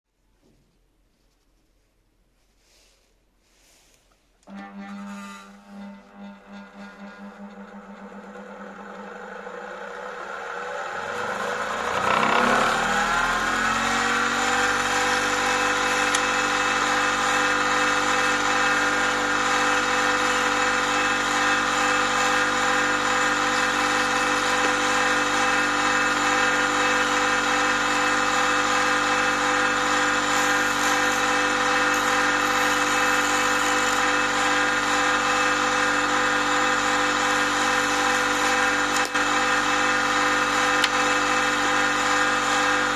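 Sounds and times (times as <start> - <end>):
sharpening machine motor whine: 4.5 - 42.9.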